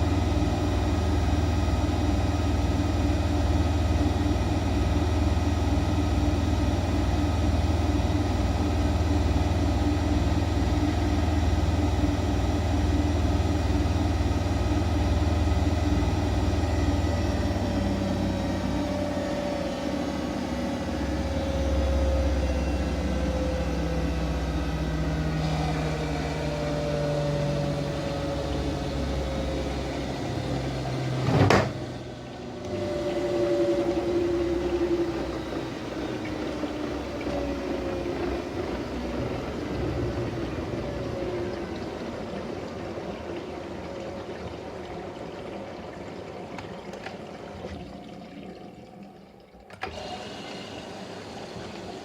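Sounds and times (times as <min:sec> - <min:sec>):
washing machine motor humming: 0:00.0 - 0:52.0.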